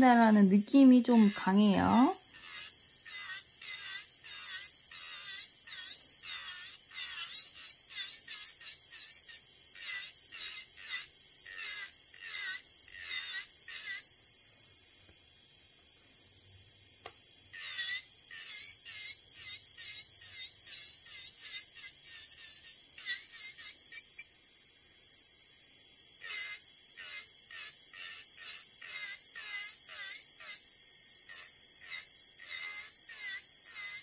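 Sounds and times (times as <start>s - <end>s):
drill bit rasping on nail: 0.0s - 14.1s, 17.5s - 24.3s, 26.2s - 30.6s, 31.2s - 34.0s
electric nail drill whining: 0.0s - 15.2s, 17.0s - 24.3s, 26.2s - 34.0s.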